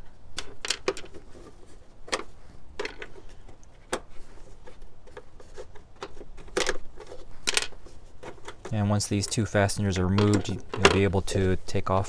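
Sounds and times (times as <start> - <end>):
plastic fasteners clicking out: 0.4 - 1.4, 2.1 - 11.1.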